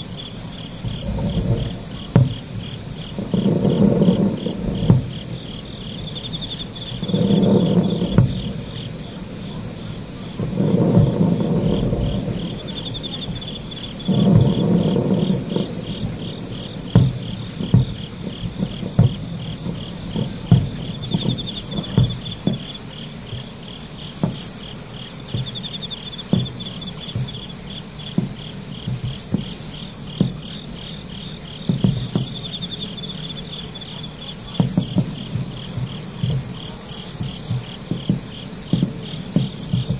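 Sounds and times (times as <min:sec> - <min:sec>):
fireworks booming and popping: 0:00.0 - 0:39.9
insects chirping: 0:00.0 - 0:39.9.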